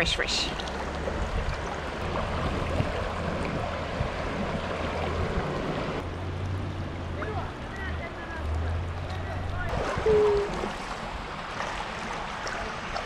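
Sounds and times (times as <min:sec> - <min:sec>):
river water rushing over stones: 0:00.0 - 0:13.0.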